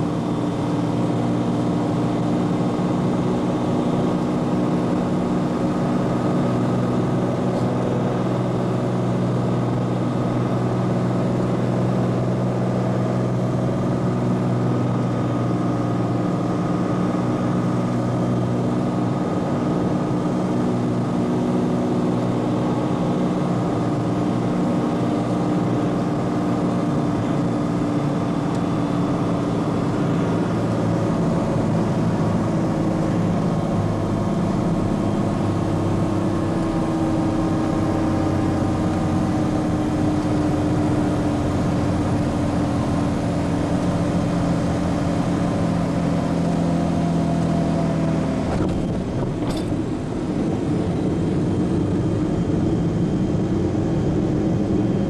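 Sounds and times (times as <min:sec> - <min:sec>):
airplane engine and propeller drone: 0:00.0 - 0:55.0
wheels rumbling on runway: 0:00.0 - 0:55.0.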